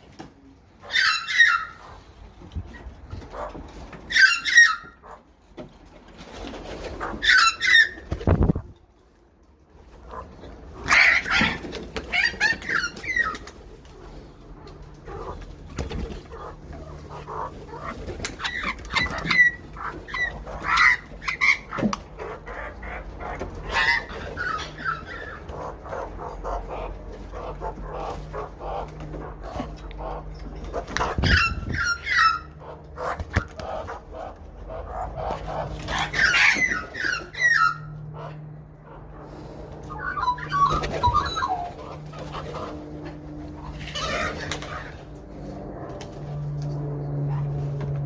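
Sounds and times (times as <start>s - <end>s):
magpies calling and warbling: 0.7s - 5.2s, 6.8s - 8.6s, 9.9s - 45.6s.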